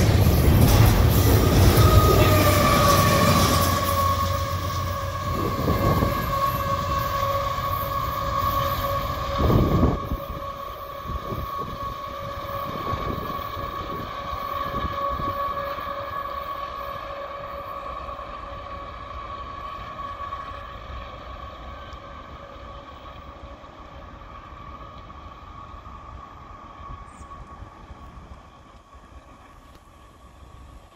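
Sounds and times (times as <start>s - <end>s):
diesel locomotive whine and rumble: 0.0s - 30.9s.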